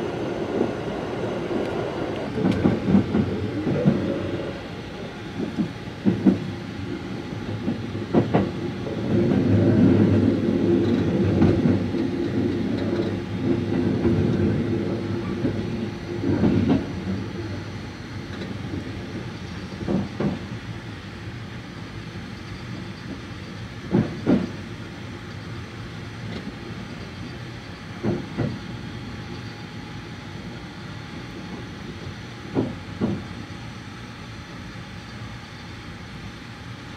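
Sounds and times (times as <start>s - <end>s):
train rumble from inside: 0.0s - 36.9s.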